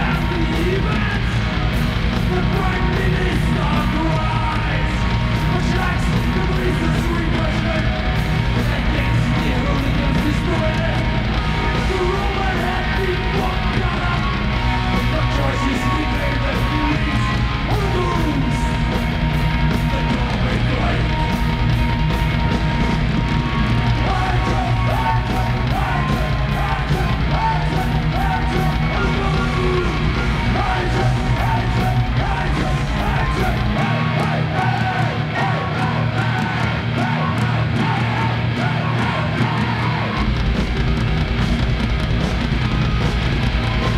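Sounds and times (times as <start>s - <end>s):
bass guitar: 0.0s - 43.9s
distorted guitar: 0.0s - 43.9s
pounding drums with cymbals: 0.0s - 43.9s.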